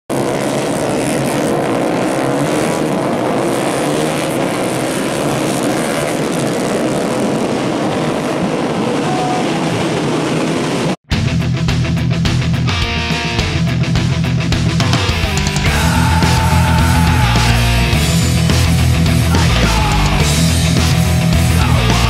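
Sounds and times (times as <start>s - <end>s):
motorcycle engines revving: 0.1s - 11.0s, 13.0s - 22.0s.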